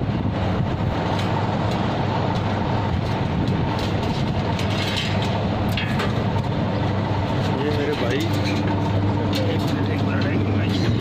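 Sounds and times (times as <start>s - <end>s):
machinery drone: 0.0s - 11.0s.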